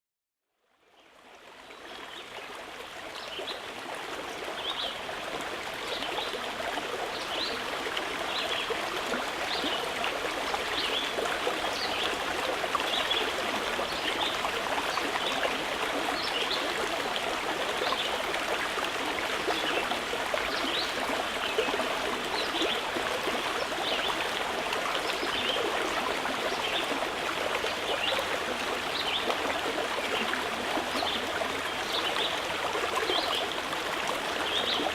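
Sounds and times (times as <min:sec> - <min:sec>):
stream water trickling and bubbling: 0:00.7 - 0:34.9.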